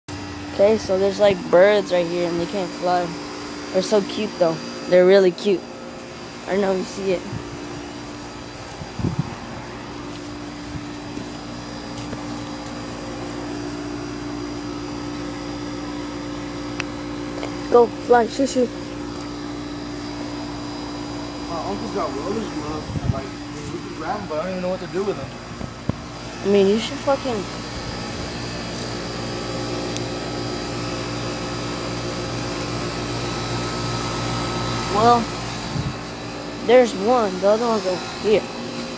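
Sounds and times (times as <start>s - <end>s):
machine hum: 0.1s - 38.9s.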